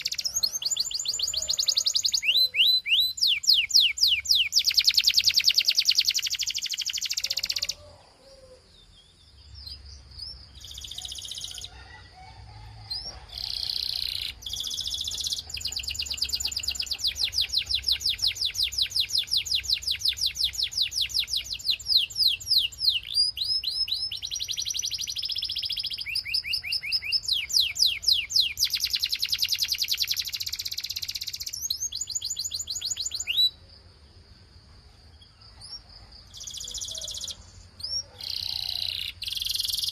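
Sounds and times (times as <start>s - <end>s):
canary singing fast trills: 0.0s - 34.0s, 35.2s - 39.9s.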